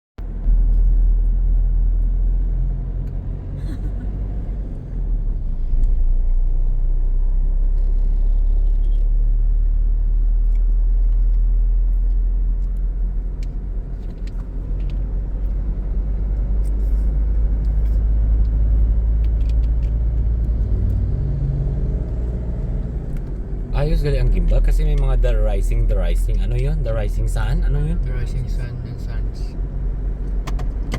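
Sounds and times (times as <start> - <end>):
moving car rumble: 0.2 - 30.9.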